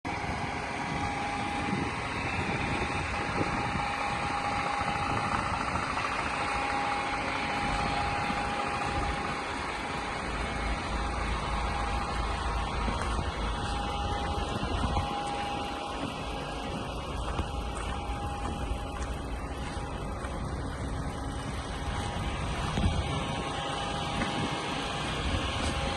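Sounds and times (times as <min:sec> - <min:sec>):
diesel engine idling: 0:00.0 - 0:25.9
thin steady tone: 0:00.1 - 0:25.9.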